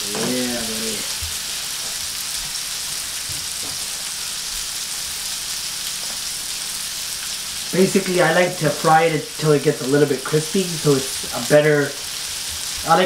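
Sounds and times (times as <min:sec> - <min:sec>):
fish and asparagus sizzling on griddle: 0:00.0 - 0:13.0.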